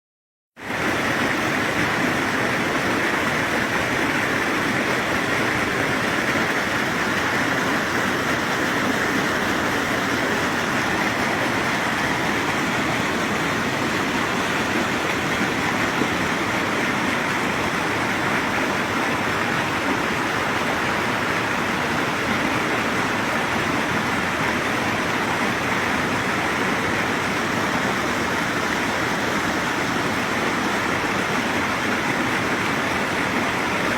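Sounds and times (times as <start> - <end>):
spring water flowing: 0.6 - 33.9.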